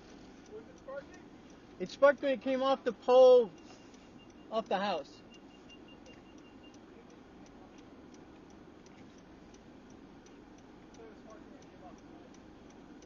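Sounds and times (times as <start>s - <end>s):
faint regular ticking: 0.0s - 13.0s.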